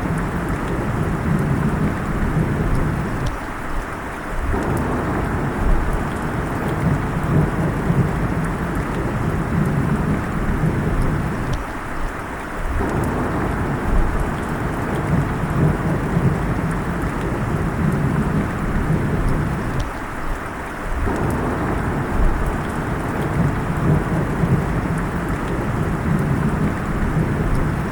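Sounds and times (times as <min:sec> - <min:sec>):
steady rain: 0:00.0 - 0:27.9
thunder rumbling: 0:00.0 - 0:27.9.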